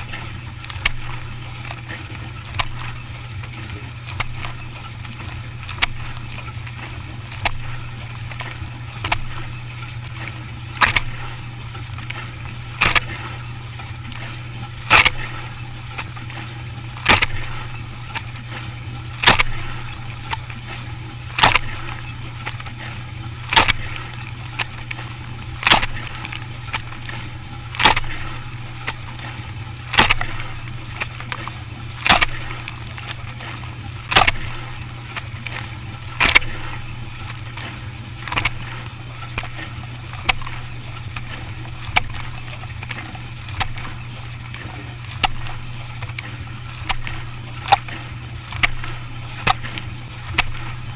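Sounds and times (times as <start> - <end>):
machine humming: 0.0 - 50.9.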